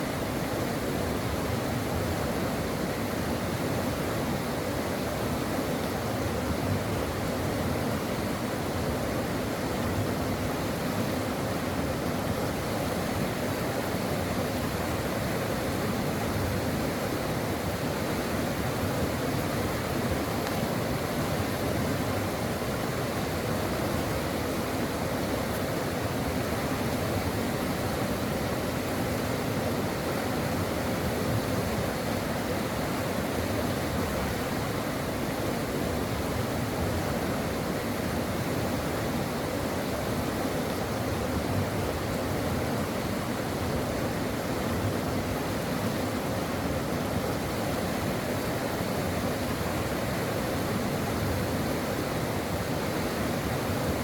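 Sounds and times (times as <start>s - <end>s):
brook running over rocks: 5.9s - 54.0s.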